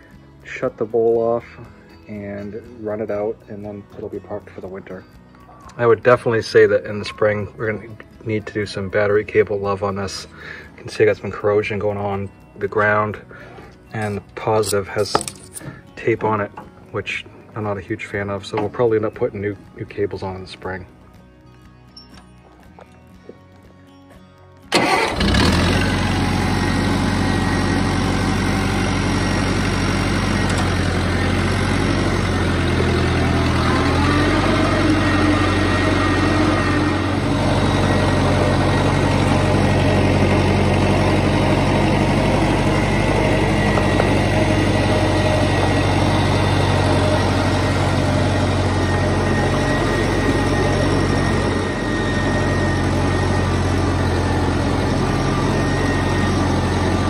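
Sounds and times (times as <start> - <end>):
tractor engine running: 0.0 - 20.9, 24.6 - 57.0.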